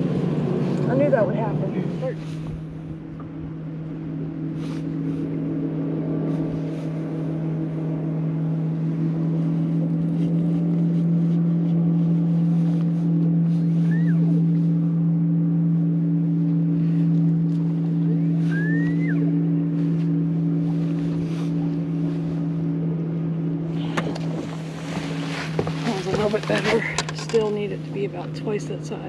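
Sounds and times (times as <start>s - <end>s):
electric trolling motor humming: 0.0s - 29.0s.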